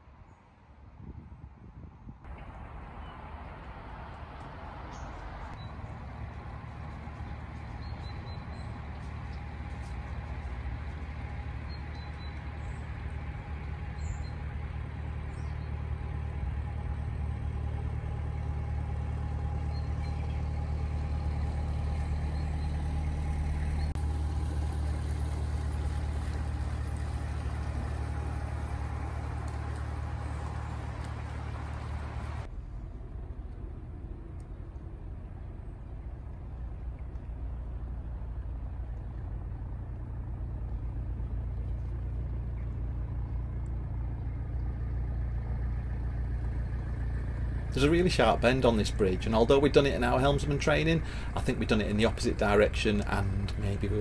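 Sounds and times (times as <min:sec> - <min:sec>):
boat diesel engine thrumming: 0:02.2 - 0:54.0.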